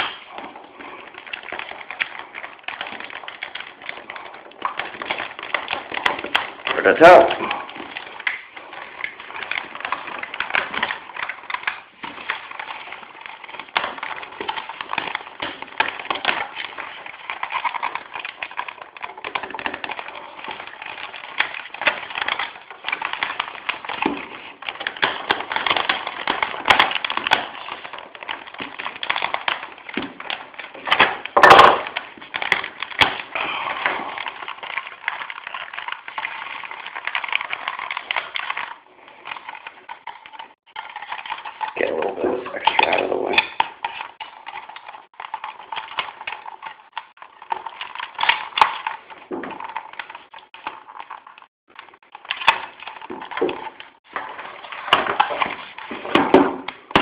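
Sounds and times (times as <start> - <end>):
wire and tape crackling: 0.0 - 57.0.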